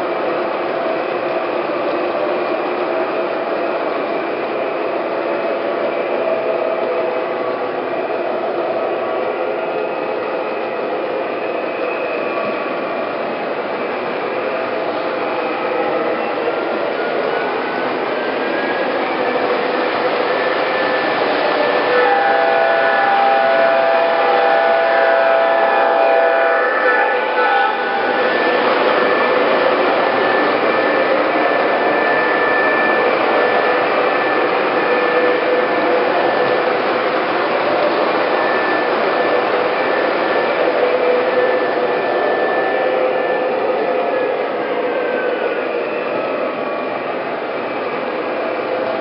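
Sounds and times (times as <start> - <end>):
model train rumbling on track: 0.0 - 49.0.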